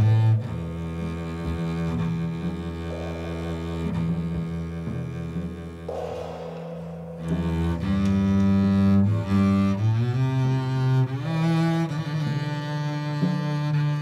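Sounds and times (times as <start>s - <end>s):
bowed double bass: 0.0s - 6.0s, 7.2s - 14.0s.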